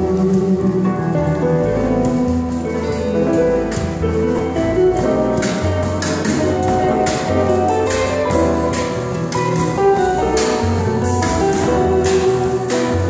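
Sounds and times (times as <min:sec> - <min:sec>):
electric guitar: 0:00.0 - 0:13.0
live band playing: 0:00.0 - 0:13.0.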